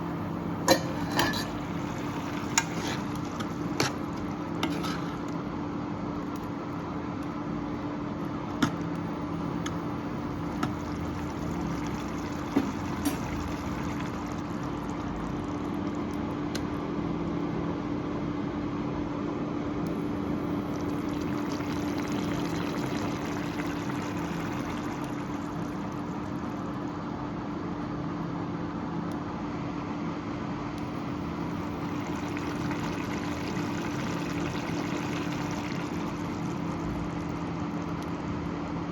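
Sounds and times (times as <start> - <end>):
gravy bubbling in a pan: 0.0 - 17.0, 19.9 - 27.3, 30.8 - 38.9
low steady hum: 0.0 - 17.6, 19.7 - 27.9, 30.7 - 38.9.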